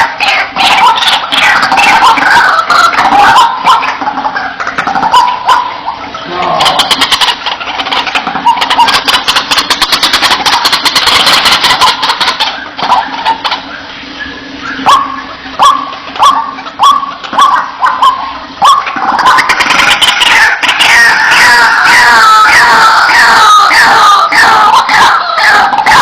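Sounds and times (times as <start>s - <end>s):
bird harsh chattering calls: 0.0s - 26.0s.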